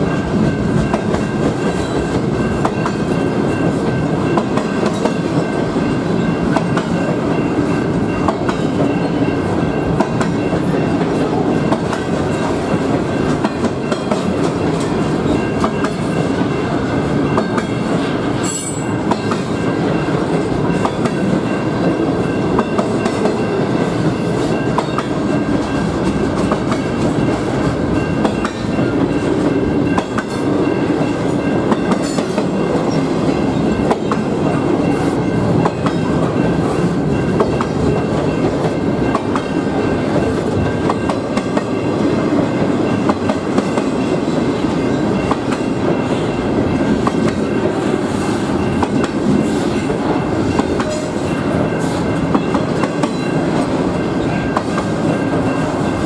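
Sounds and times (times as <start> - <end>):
freight train rumbling: 0.0 - 56.0
train wheels clacking: 0.0 - 56.0.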